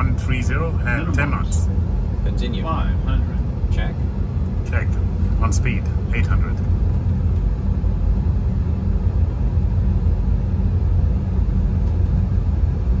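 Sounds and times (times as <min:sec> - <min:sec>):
simulated jet engine rumble: 0:00.0 - 0:13.0.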